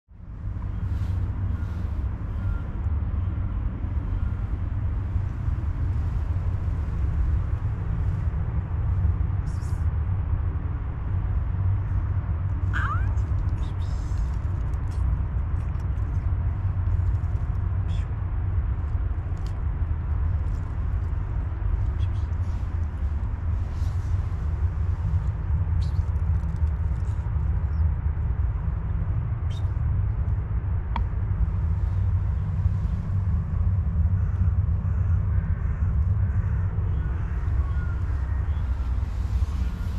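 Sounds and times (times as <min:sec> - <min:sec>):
low outdoor rumble: 0:00.1 - 0:39.9.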